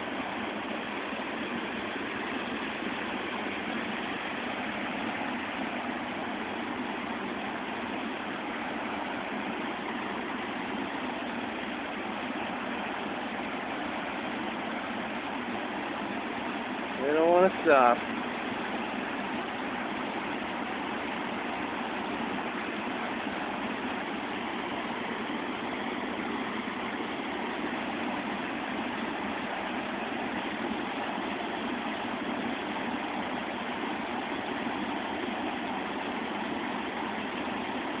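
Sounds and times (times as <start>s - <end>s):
river water rushing over waterfall: 0.0s - 38.0s.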